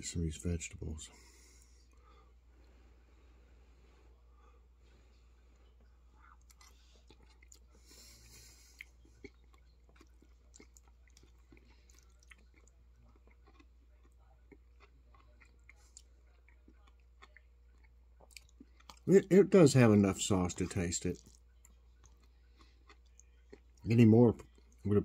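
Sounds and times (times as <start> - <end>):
low steady hum: 0.0 - 25.0
faint chewing noodles: 1.2 - 19.2, 20.3 - 25.0.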